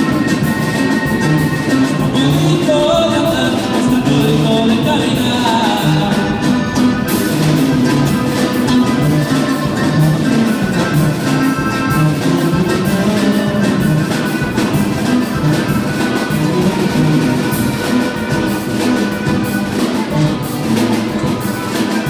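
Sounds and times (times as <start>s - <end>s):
band music with drums: 0.0s - 22.0s.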